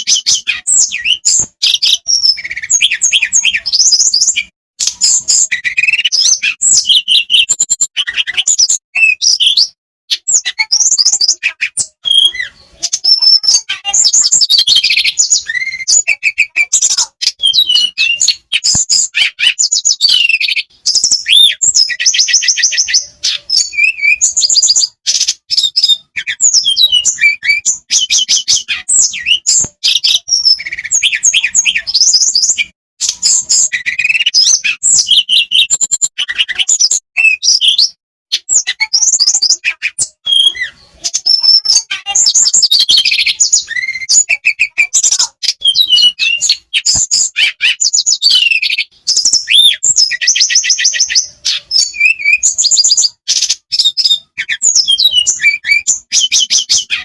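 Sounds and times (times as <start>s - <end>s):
songbird singing trills and whistles: 0.0s - 57.0s.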